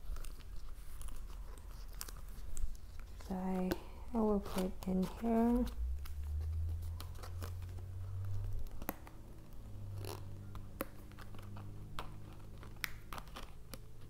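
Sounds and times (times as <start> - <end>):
plastic cards clicking and tapping: 0.0 - 6.2, 6.9 - 14.0
low steady hum: 0.0 - 14.0.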